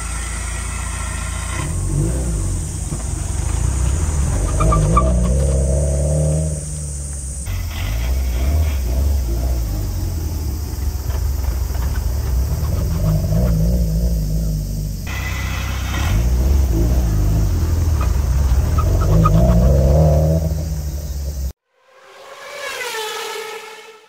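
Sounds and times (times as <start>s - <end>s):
car engine driving slowly past: 0.0s - 24.0s.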